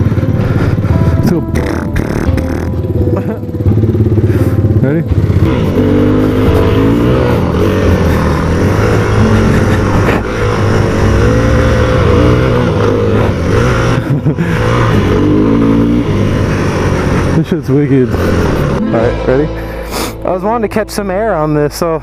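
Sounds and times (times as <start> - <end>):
dirt bike engine revving: 0.0 - 20.3.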